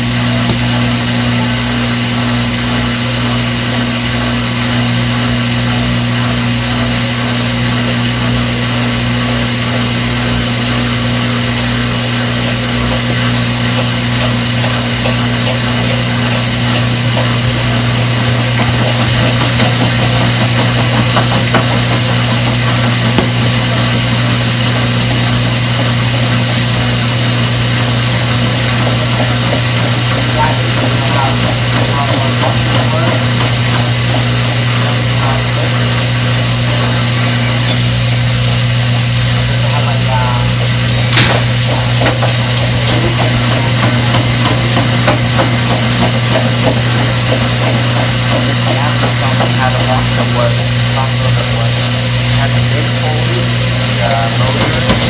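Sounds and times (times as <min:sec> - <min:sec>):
washing machine humming and whirring: 0:00.0 - 0:55.0.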